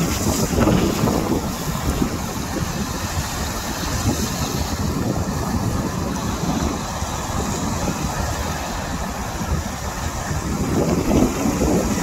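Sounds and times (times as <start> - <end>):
sea waves washing against rocks: 0.0 - 12.0
wind rumbling on microphone: 0.0 - 12.0.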